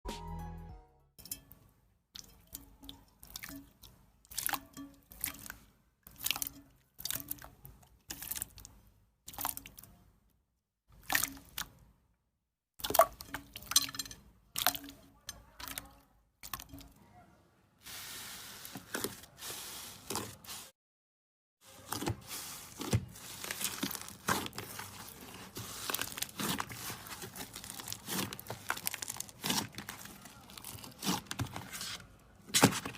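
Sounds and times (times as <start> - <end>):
slime squelching: 2.2 - 10.2, 10.9 - 11.9, 12.8 - 17.0, 17.8 - 20.7, 21.6 - 32.9.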